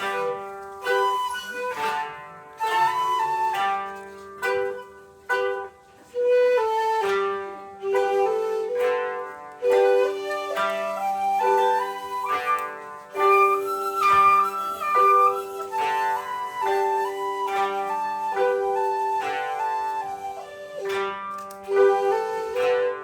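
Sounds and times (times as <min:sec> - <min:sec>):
bamboo flute melody: 0:00.0 - 0:23.0
plucked koto notes: 0:00.0 - 0:23.0.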